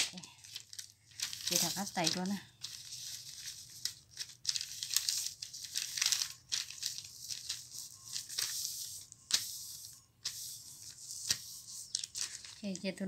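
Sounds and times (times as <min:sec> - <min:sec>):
material crinkling and rustling: 0:00.0 - 0:13.0.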